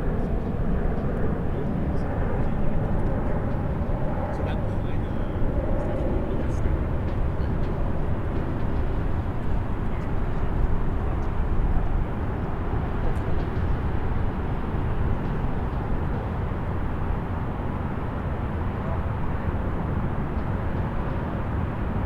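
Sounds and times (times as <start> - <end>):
distant highway traffic rumble: 0.0 - 22.0.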